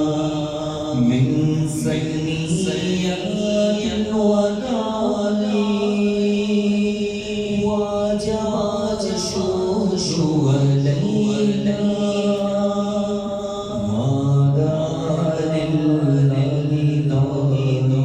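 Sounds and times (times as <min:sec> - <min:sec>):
man chanting with echo: 0:00.0 - 0:18.0.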